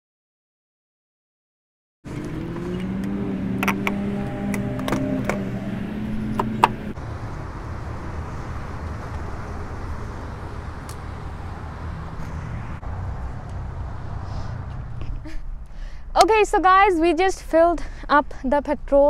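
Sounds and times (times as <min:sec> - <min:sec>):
road traffic rumble: 0:02.1 - 0:19.0.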